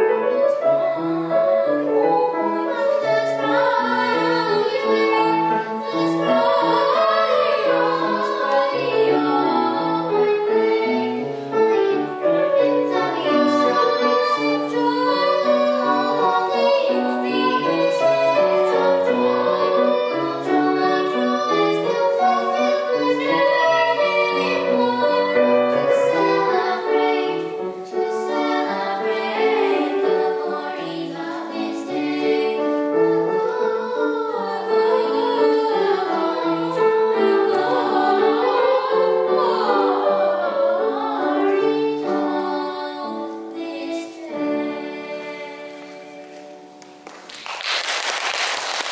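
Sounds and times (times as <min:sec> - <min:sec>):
girls singing: 0:00.0 - 0:47.4.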